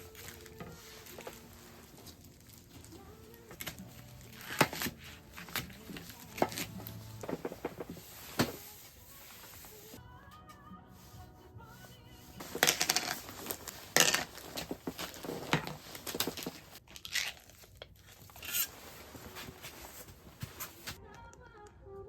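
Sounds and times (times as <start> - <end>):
crinkling and rustling handling: 0.0 - 10.0, 11.8 - 21.0.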